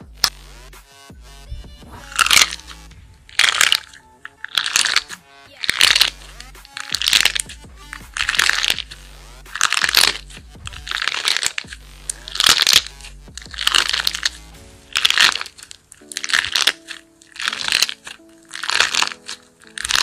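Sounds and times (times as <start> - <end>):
soft background music: 0.0 - 20.0
squishy ball squished by hand: 3.3 - 20.0.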